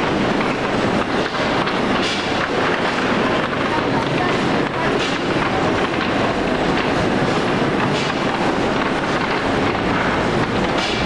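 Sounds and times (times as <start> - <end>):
potatoes clattering on conveyor: 0.0 - 11.0.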